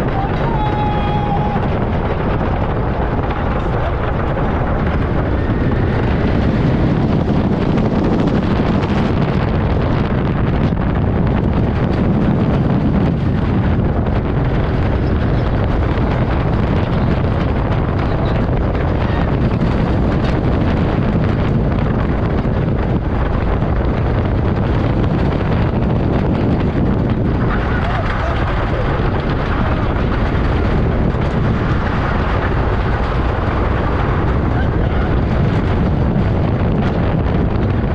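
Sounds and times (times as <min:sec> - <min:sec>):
roller coaster rumbling on track: 0:00.0 - 0:37.9
wheels rattling clatter: 0:00.0 - 0:37.9
wind buffeting microphone: 0:00.0 - 0:37.9.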